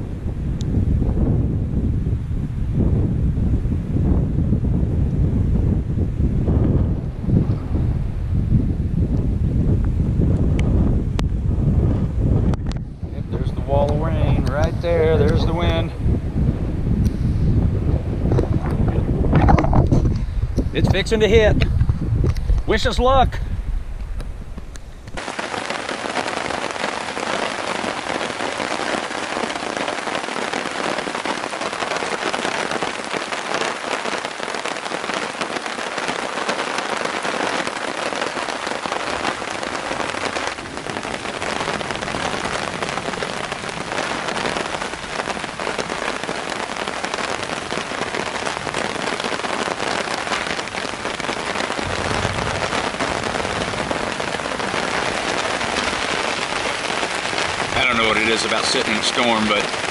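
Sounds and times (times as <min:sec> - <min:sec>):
heavy rain pouring: 0:00.0 - 0:23.3, 0:25.0 - 0:59.9.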